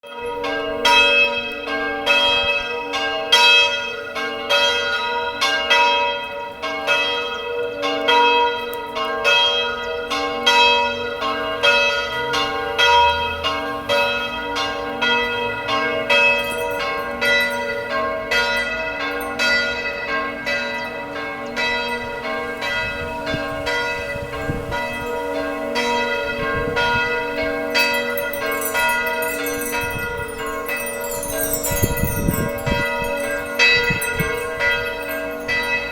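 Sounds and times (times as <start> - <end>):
church bells ringing: 0.0 - 35.9.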